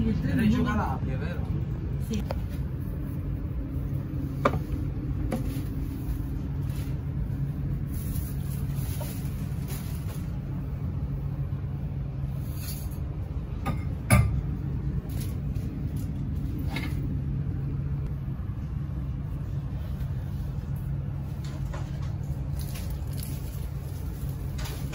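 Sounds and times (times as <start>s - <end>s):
train interior hum: 0.0s - 24.9s.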